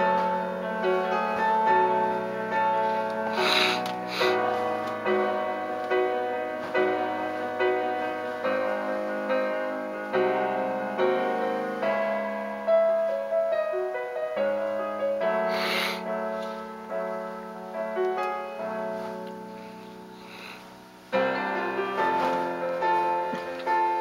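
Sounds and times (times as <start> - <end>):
slow piano ballad: 0.0 - 24.0.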